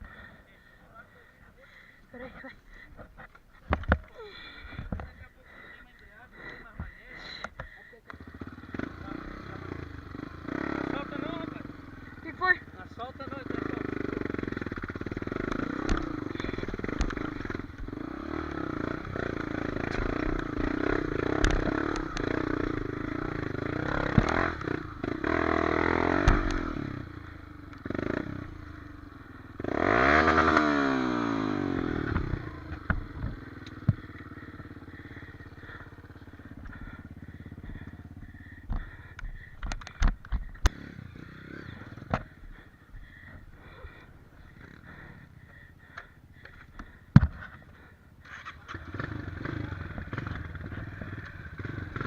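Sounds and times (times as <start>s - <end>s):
motorcycle engine revving: 8.1s - 52.0s.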